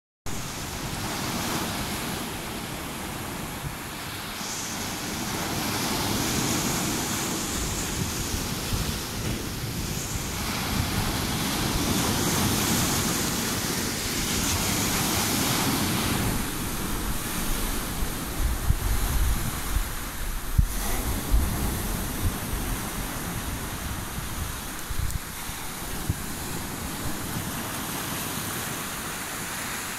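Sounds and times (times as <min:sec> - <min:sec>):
waves breaking on pebbly shore: 0:00.3 - 0:29.9.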